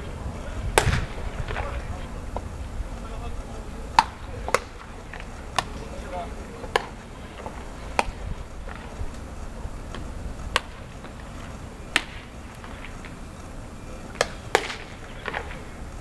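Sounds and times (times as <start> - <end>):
baseballs popping into leather gloves: 0.7 - 2.6, 3.9 - 13.3, 14.1 - 15.8.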